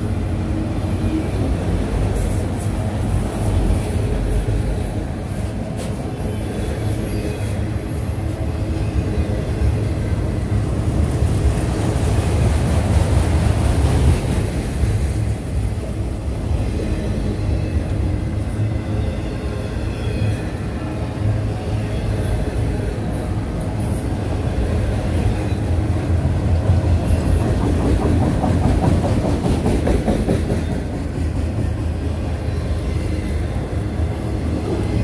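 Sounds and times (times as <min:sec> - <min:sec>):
train rumbling by: 0:00.0 - 0:35.0.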